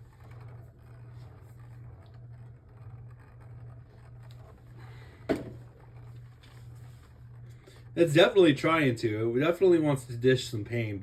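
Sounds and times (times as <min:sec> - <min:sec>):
spinning tops whirring: 0:00.0 - 0:09.3.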